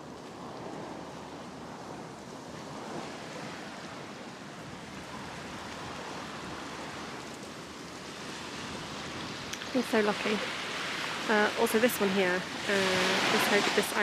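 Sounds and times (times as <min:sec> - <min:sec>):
surf washing on beach: 0:00.0 - 0:14.0.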